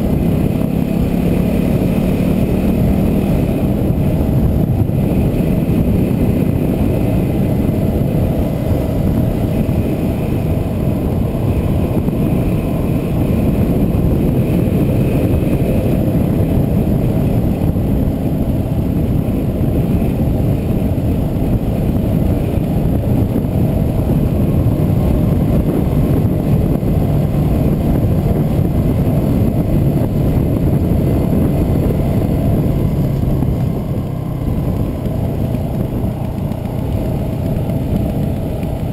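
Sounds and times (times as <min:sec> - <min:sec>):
motorcycle engine running: 0:00.0 - 0:38.9
road and wind rush: 0:00.0 - 0:38.9.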